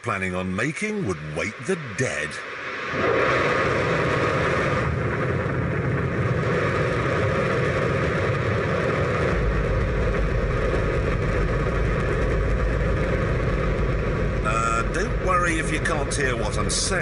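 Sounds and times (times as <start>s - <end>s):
rocket engine roaring: 0.0s - 17.0s.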